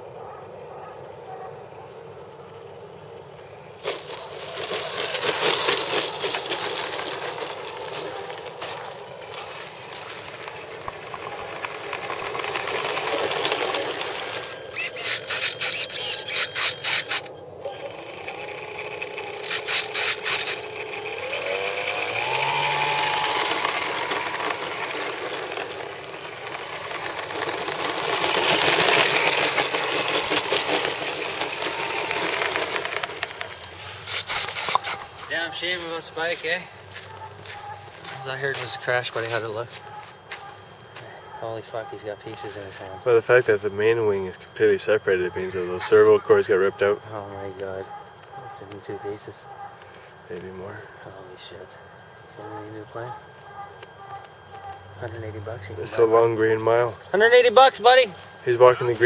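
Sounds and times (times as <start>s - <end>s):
model plane motor buzzing whine: 3.8s - 36.6s, 37.2s - 59.0s.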